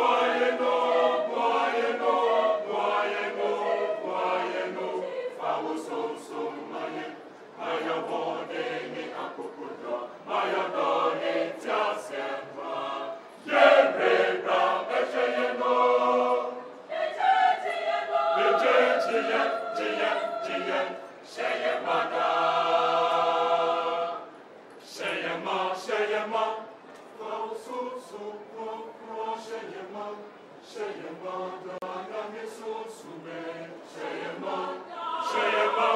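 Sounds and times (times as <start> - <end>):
choir singing: 0.0 - 35.9.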